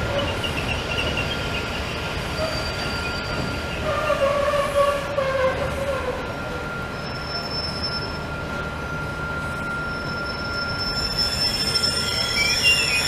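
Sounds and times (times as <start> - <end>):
train coaches rolling: 0.0 - 13.0
wheel and brake squeal: 0.0 - 13.0.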